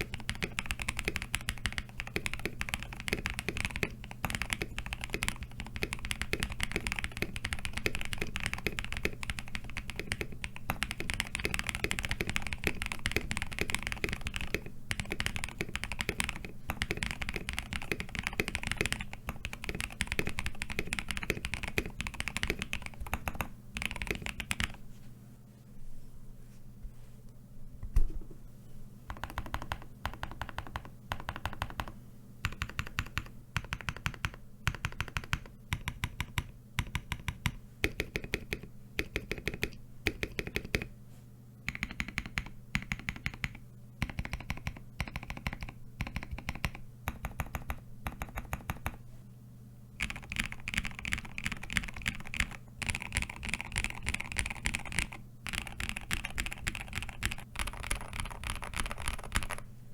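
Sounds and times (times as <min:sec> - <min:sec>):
typing on mechanical keyboard: 0:00.0 - 0:24.8, 0:29.1 - 0:40.9, 0:41.7 - 0:49.0, 0:50.0 - 0:59.6.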